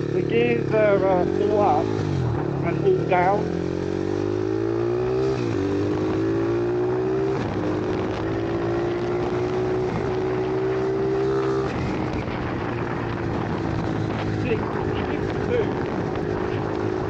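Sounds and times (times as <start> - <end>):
small motorbike engine under throttle: 0.0 - 17.0.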